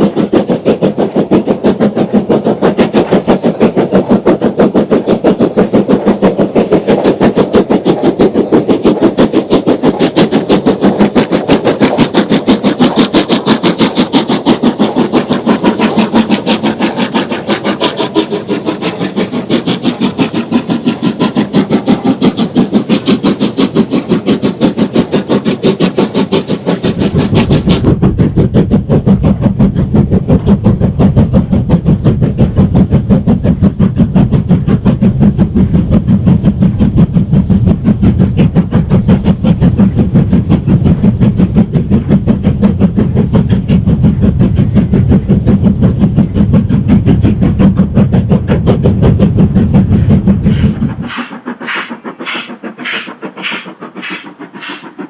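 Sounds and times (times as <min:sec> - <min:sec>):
steam locomotive exhaust beating: 0:00.0 - 0:55.0.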